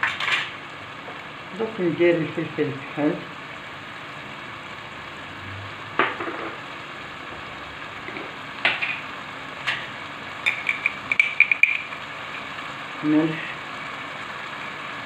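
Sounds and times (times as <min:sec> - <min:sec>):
chicken frying in oil: 0:00.0 - 0:15.0.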